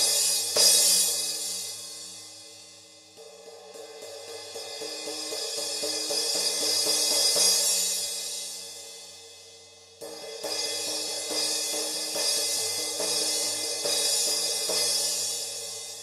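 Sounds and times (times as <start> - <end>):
crash cymbal being struck: 0.0 - 16.0.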